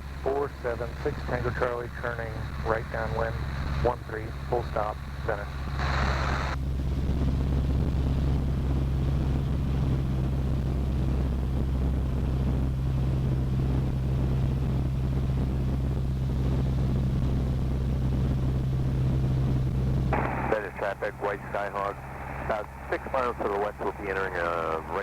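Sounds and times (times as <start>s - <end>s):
airplane engine and propeller droning: 0.0s - 25.0s.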